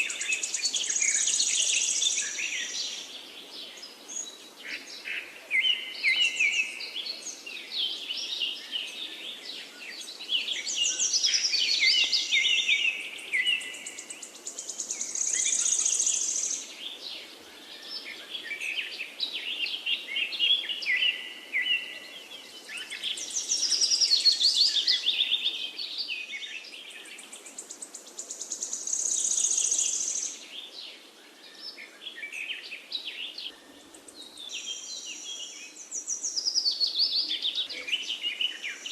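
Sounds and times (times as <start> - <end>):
faint steady background noise: 0.0 - 38.9
songbirds chirping and trilling: 0.0 - 38.9.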